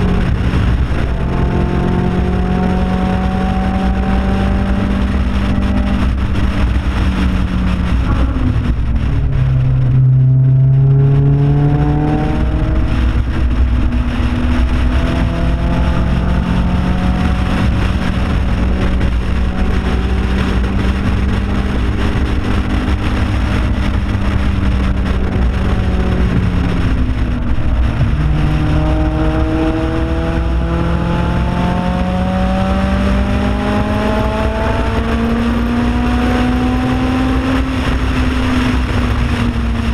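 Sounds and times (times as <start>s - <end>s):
race car engine: 0.0s - 39.9s
wind buffeting: 0.0s - 39.9s.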